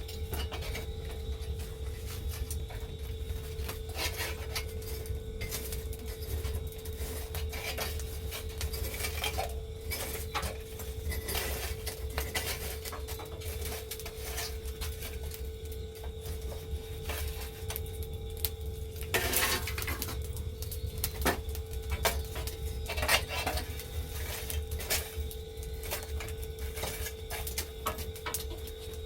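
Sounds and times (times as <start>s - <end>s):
charcoal crackling: 0.0s - 29.0s
meat sizzling on grill: 0.0s - 29.0s.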